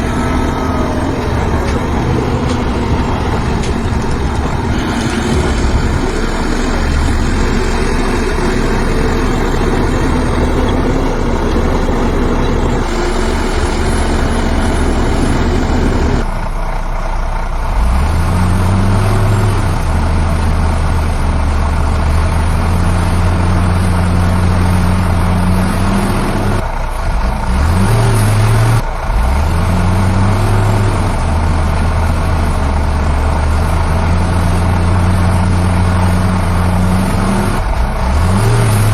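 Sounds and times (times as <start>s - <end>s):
diesel engines revving: 0.0s - 38.9s.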